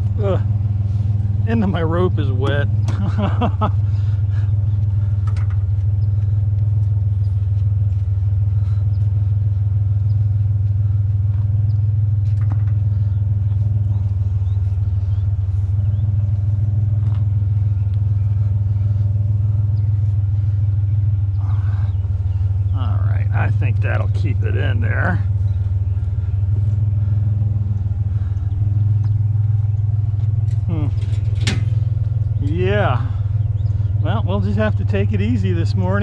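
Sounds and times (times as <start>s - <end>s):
pickup truck engine idling: 0.0s - 36.0s.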